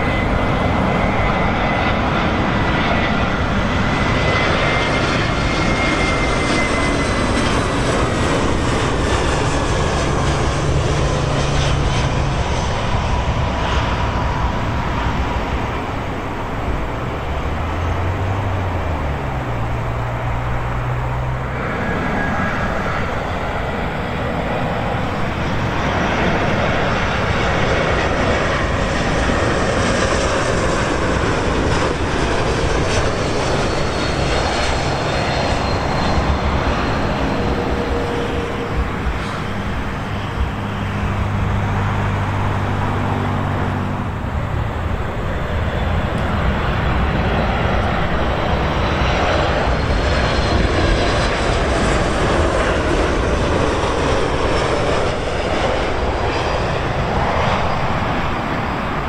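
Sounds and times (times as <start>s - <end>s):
jet airliner roar: 0.0s - 59.0s.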